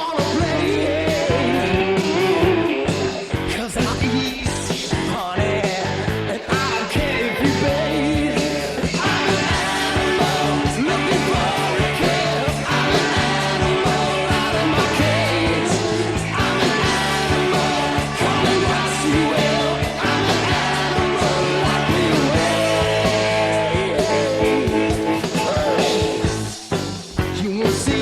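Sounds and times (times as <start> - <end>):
lead vocal singing: 0.0 - 26.6, 27.3 - 28.0
bass guitar: 0.0 - 28.0
distorted electric guitar: 0.0 - 28.0
drums: 0.0 - 28.0.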